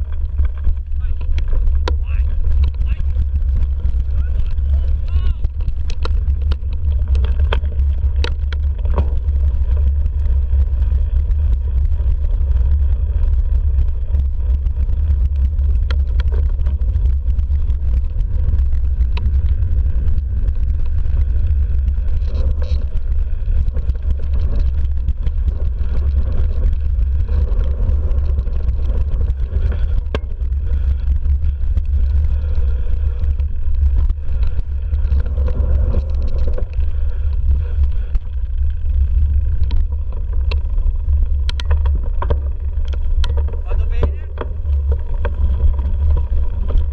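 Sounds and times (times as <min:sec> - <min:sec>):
bike knocking and rattling: 0:00.0 - 0:46.9
wind rumble on microphone: 0:00.0 - 0:46.9.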